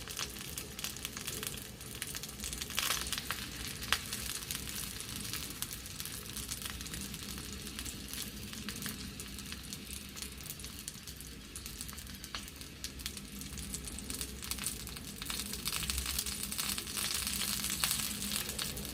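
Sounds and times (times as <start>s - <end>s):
oil crackling and popping: 0.0s - 18.9s
sausages sizzling in a frying pan: 0.0s - 18.9s.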